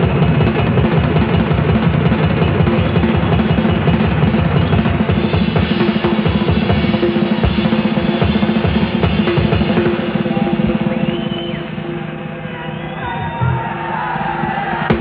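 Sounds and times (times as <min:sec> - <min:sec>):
rock drum rolls: 0:00.0 - 0:11.6, 0:13.0 - 0:15.0
steady held note: 0:02.7 - 0:15.0.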